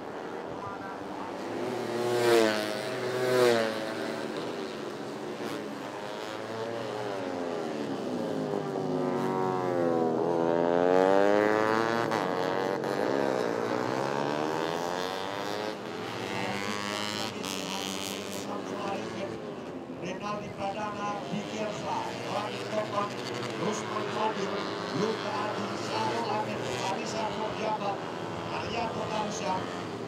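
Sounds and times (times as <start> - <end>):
racing motorcycles at full throttle: 0.0 - 30.0.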